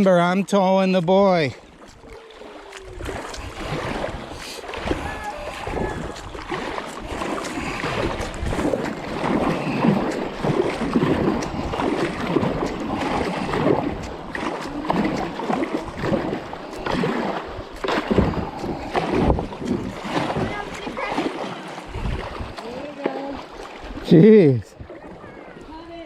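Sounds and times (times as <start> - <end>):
river water splashing around kayak: 0.0 - 26.0.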